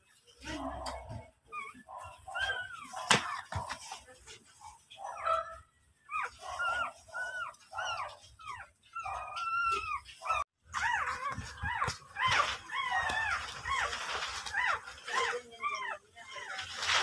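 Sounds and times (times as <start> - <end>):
puppies squeaking and whimpering: 0.1 - 4.0, 4.7 - 17.0.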